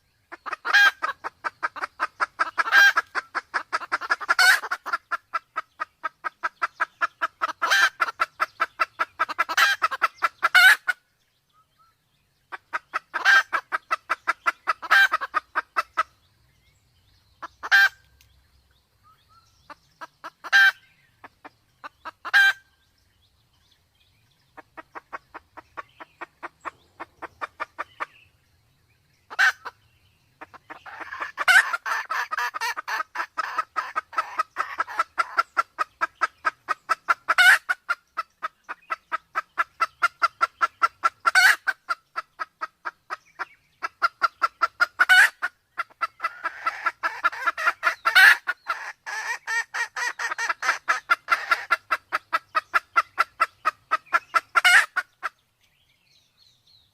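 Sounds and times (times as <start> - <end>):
hen clucking rapidly: 0.3 - 11.0, 12.5 - 16.2, 17.4 - 18.0, 19.6 - 22.7, 24.5 - 28.3, 29.3 - 29.8, 30.4 - 55.4
sharp hen calls: 0.3 - 11.0, 12.5 - 16.2, 17.4 - 18.0, 19.7 - 22.7, 24.6 - 28.2, 29.3 - 29.8, 30.4 - 55.4.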